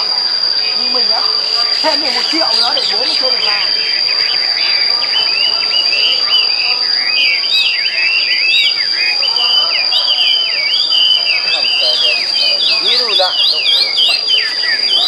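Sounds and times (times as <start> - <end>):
high-pitched insect drone: 0.0 - 15.0
songbirds chirping and whistling: 0.0 - 15.0.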